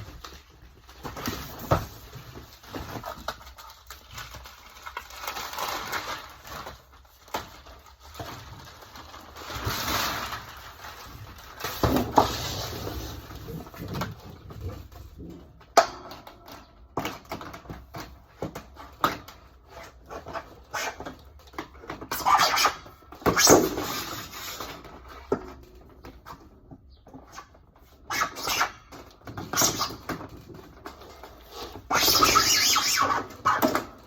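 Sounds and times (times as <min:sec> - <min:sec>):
rustling and scratching: 0:00.0 - 0:34.0.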